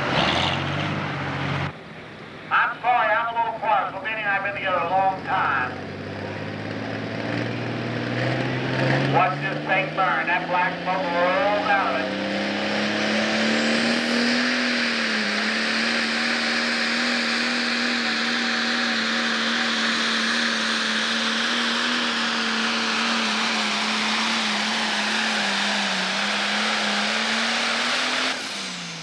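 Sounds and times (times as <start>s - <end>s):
diesel engine running flat out: 0.0s - 29.0s.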